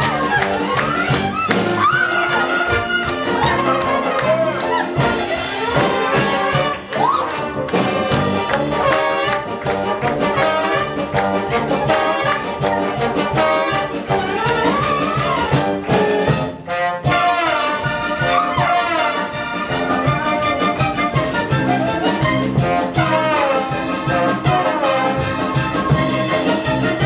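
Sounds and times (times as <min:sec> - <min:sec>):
brass instrumental music: 0:00.0 - 0:27.0.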